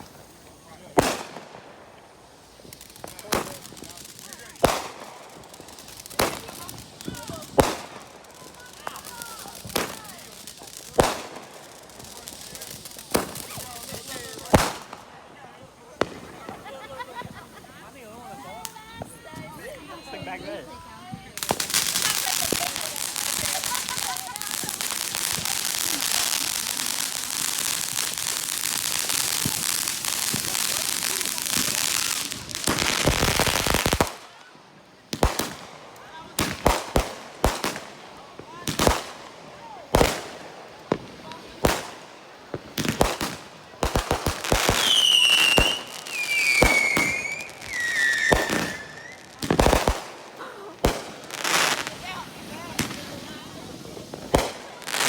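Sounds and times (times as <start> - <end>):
fireworks popping loudly: 0.0 - 15.2, 15.9 - 55.0
fireworks crackling: 0.0 - 55.0.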